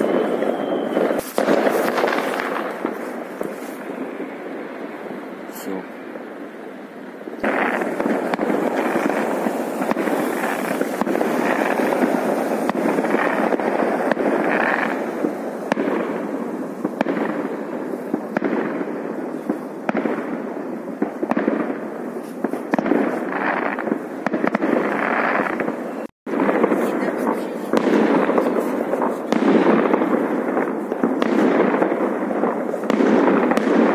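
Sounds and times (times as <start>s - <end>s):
fireworks bangs and crackles: 0.0s - 33.9s
sharp firework cracks: 0.0s - 33.9s.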